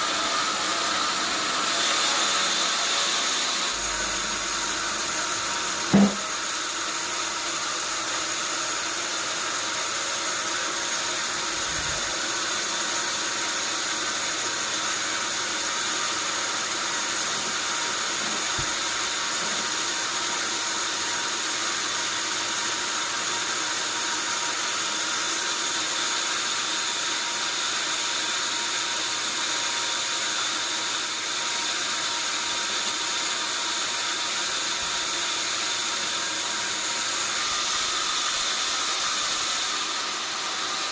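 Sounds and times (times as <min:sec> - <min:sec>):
sawmill machinery hissing: 0:00.0 - 0:40.9.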